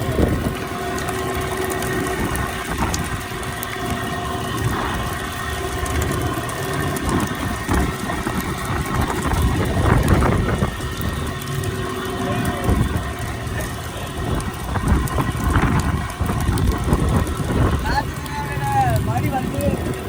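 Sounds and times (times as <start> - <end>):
boat engine idling: 0.0 - 20.0
sea noise: 0.0 - 20.0
wind rumble on microphone: 0.0 - 20.0.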